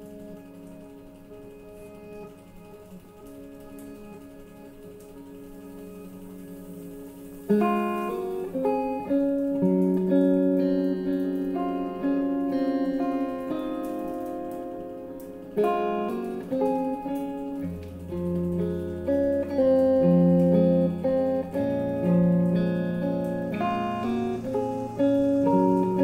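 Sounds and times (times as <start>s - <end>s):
guitar picking single notes: 0.0s - 26.0s
low sustained tones: 0.0s - 26.0s.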